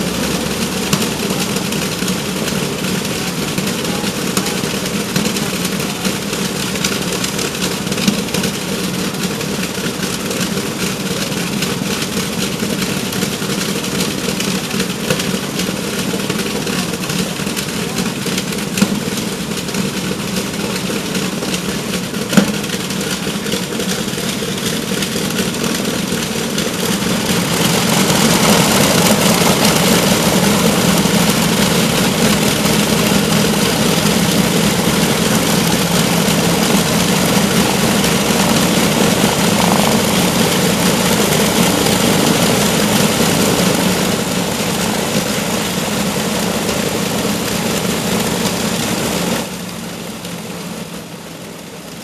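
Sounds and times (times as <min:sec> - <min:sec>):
radial aircraft engines idling: 0:00.0 - 0:52.0.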